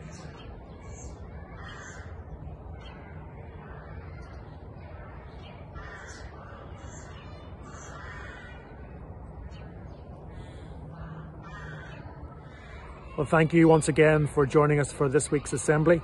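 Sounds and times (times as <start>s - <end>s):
steady low rumble: 0.0s - 13.2s
birds calling: 0.0s - 16.0s.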